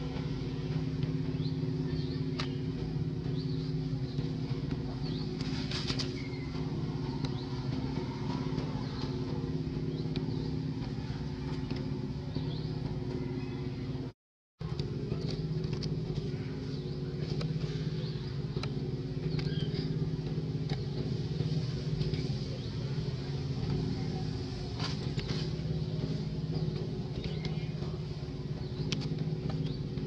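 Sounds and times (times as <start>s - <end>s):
low engine-like hum: 0.0s - 30.0s.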